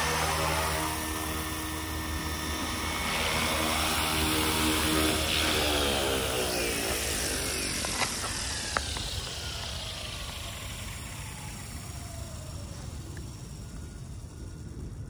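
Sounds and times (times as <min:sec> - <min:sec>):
rc helicopter rotor and motor whine: 0:00.0 - 0:15.0.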